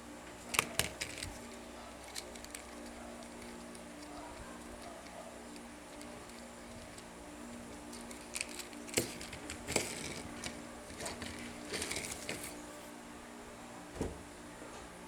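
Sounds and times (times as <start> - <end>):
plastic toys clicking and rustling: 0.3 - 12.7.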